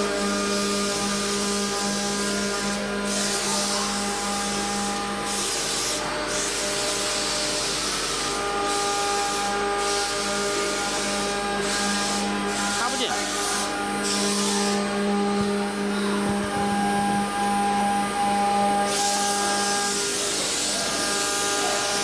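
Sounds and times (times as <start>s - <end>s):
router spindle cutting wood: 0.0s - 22.0s.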